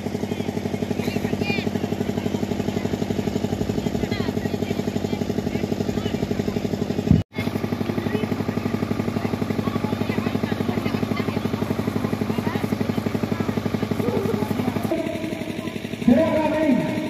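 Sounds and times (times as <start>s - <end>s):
engine running: 0.0s - 17.0s
faint crowd voices: 0.0s - 17.0s.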